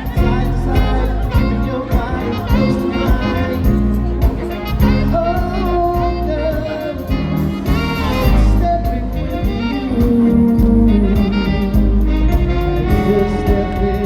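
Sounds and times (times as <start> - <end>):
dance band music: 0.0 - 14.0.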